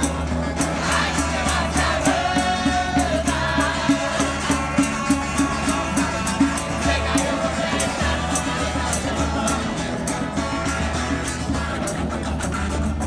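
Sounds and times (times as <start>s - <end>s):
voices singing together: 0.0s - 12.5s
strummed guitars over a beat: 0.0s - 13.0s.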